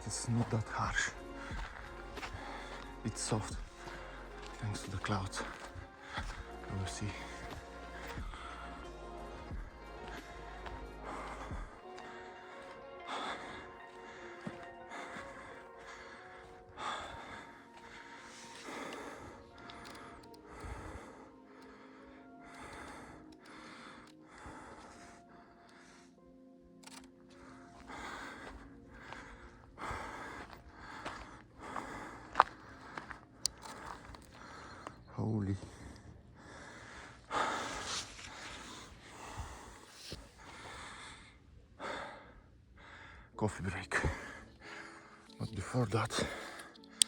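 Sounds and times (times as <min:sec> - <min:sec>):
person breathing hard: 0:00.0 - 0:26.2, 0:26.8 - 0:45.4
faint background music: 0:00.0 - 0:47.0.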